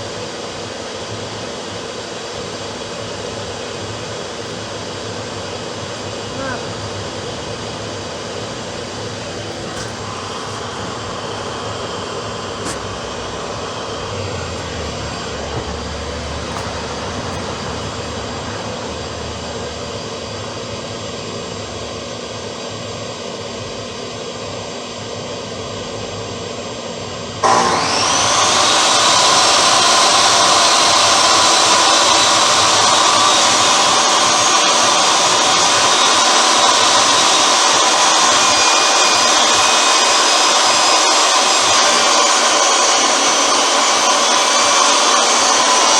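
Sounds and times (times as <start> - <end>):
steady machine noise: 0.0 - 24.2, 27.4 - 45.9
table saw motor whining: 2.2 - 21.0, 27.4 - 45.9.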